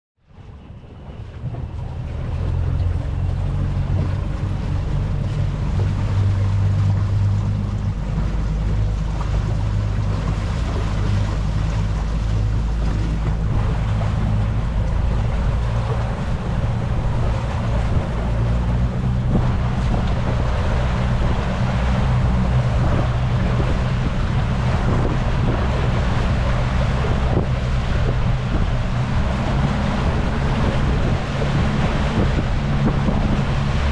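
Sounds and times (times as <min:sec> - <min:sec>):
speedboat engine drone: 0:00.2 - 0:33.9
rushing water: 0:00.3 - 0:33.9
wind buffeting microphone: 0:00.3 - 0:33.9.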